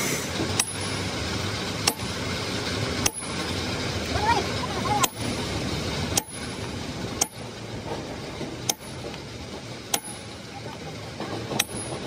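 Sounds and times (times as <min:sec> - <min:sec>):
hammers striking steel: 0:00.4 - 0:12.0.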